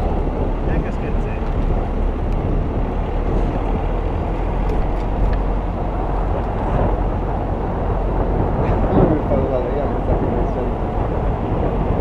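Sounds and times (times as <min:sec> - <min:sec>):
car engine and tyre noise: 0:00.0 - 0:12.0
wind rumble on microphone: 0:00.0 - 0:12.0.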